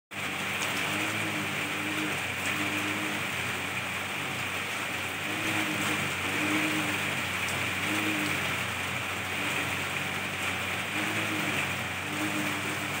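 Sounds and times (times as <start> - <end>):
rain falling on leaves: 0.1 - 13.0
raindrops ticking: 0.1 - 13.0.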